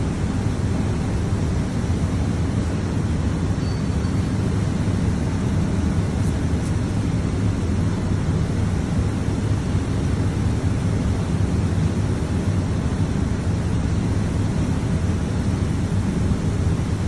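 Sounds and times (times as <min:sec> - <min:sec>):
low factory rumble: 0:00.0 - 0:17.0.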